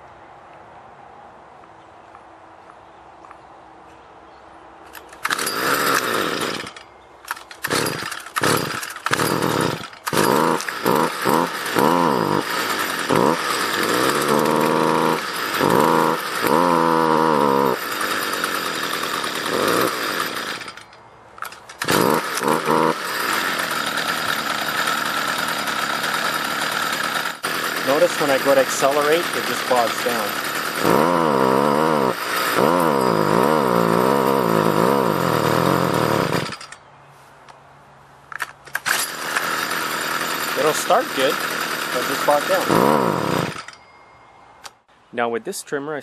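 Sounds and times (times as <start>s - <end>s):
string trimmer engine revving: 4.9s - 36.8s, 38.7s - 43.8s.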